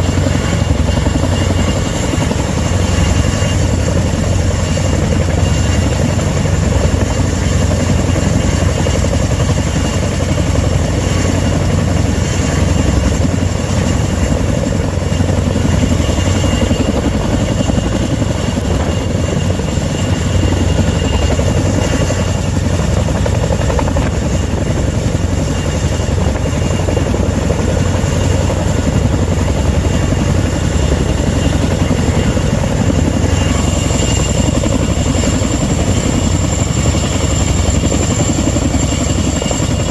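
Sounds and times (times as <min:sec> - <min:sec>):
helicopter drone and whine: 0:00.0 - 0:39.9.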